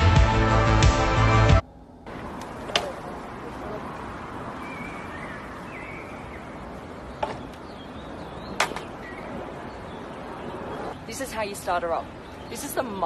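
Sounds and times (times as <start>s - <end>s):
outdoor street noise: 0.0s - 13.0s.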